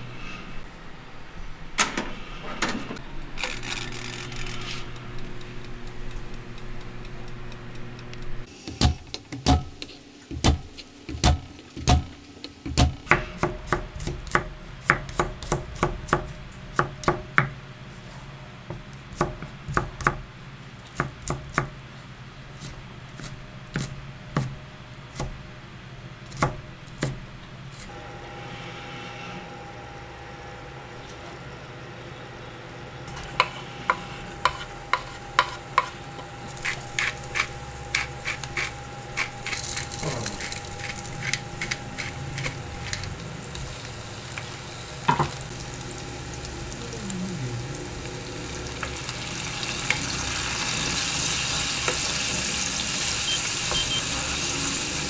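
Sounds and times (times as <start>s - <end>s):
air fryer oven humming: 0.0s - 55.0s.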